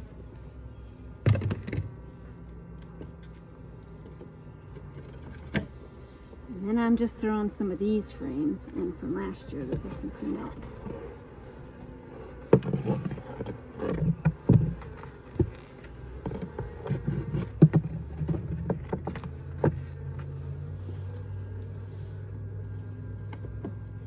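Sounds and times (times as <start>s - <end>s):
bee colony humming: 0.0s - 24.0s.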